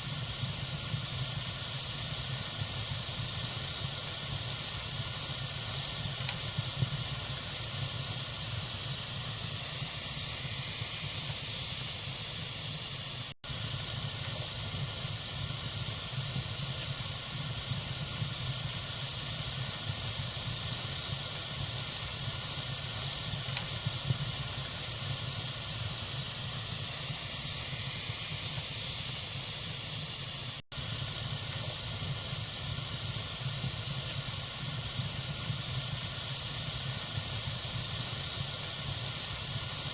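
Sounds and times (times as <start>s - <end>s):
wood fire hissing and crackling: 0.0s - 39.9s.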